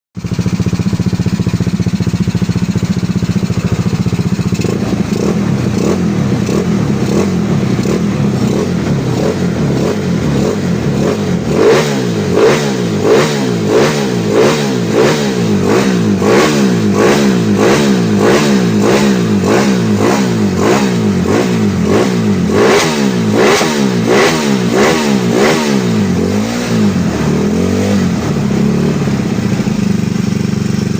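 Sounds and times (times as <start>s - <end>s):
scooter engine idling and revving: 0.2s - 30.9s.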